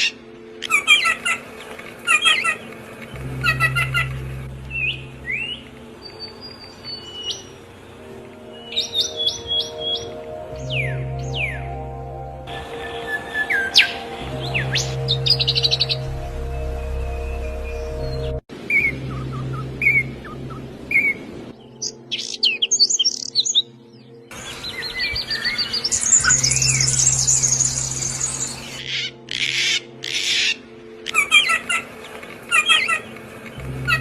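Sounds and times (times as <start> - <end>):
bird trill: 0.0 - 34.0
songbirds chirping: 0.0 - 34.0.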